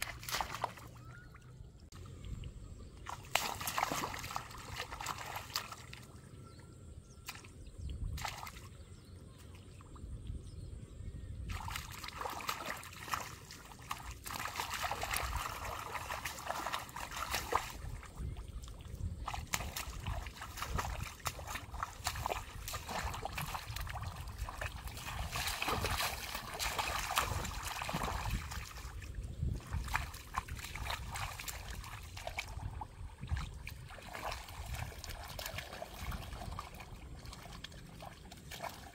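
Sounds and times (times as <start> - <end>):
muddy water sloshing and splashing: 0.0 - 38.9.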